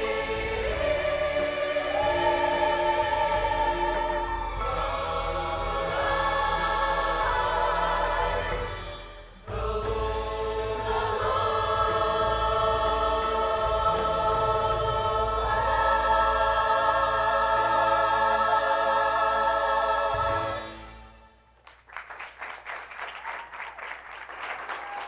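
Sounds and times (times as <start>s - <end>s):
choir singing held chords: 0.0s - 21.5s.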